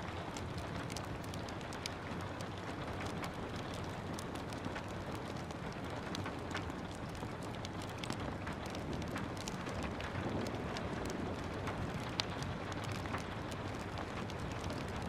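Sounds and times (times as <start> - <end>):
steady rain hiss: 0.0 - 15.0
wood fire crackling: 0.0 - 15.0.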